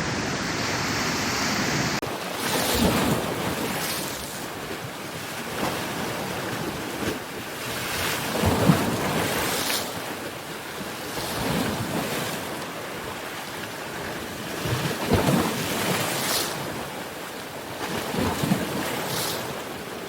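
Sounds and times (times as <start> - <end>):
waves breaking on rocky shore: 0.0 - 20.0.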